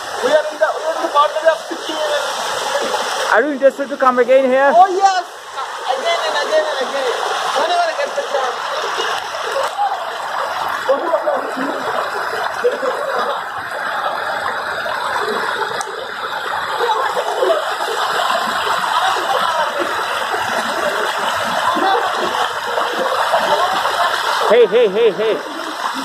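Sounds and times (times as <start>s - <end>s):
river rushing over boulders: 0.0s - 26.0s.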